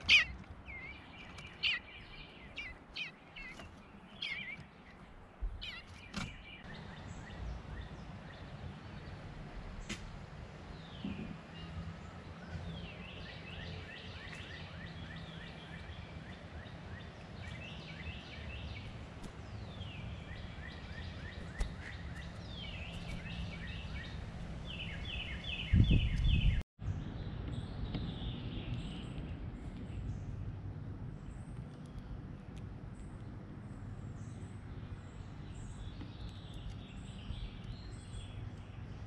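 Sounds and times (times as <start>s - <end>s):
low steady hum: 0.0s - 39.0s
songbird singing: 0.0s - 39.0s.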